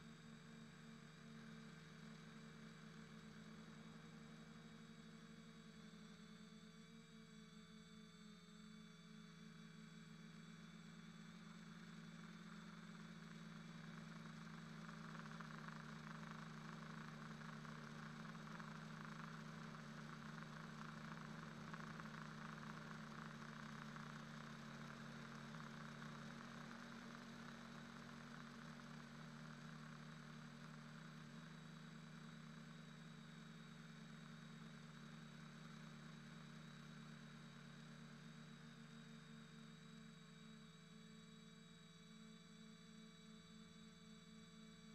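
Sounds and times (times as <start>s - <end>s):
quadcopter drone: 0.0s - 44.9s.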